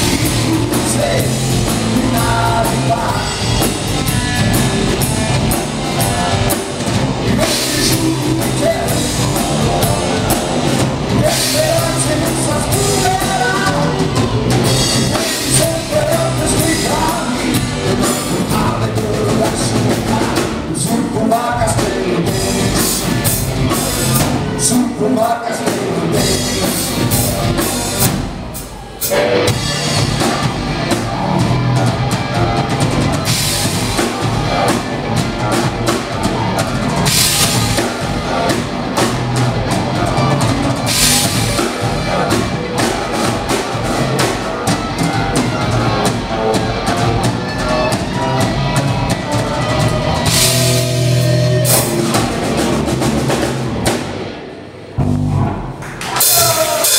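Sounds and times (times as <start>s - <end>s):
steady bass drum: 0.0s - 24.7s, 26.0s - 54.1s, 55.0s - 55.8s
live rock band playing: 0.0s - 56.9s.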